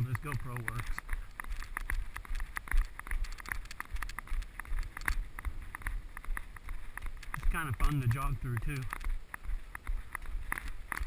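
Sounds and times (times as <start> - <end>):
jogging footsteps on trail: 0.0 - 11.0
camera handling noise: 0.7 - 8.0, 8.6 - 11.0.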